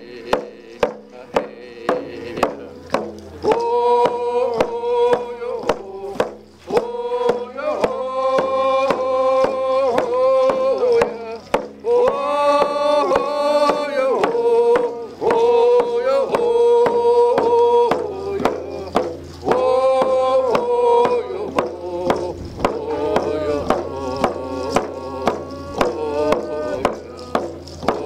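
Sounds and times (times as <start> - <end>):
man singing long notes: 0.0 - 28.0
hand drum beating: 0.2 - 28.0.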